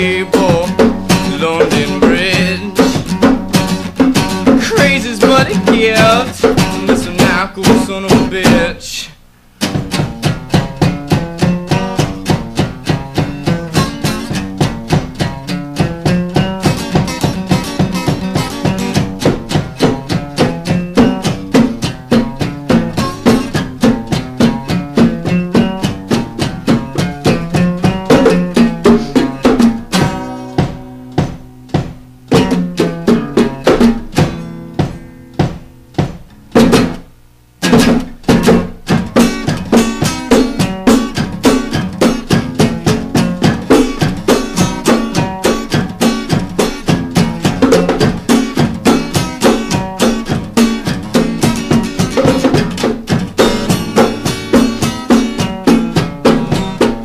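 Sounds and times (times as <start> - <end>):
plucked guitar: 0.0 - 57.0.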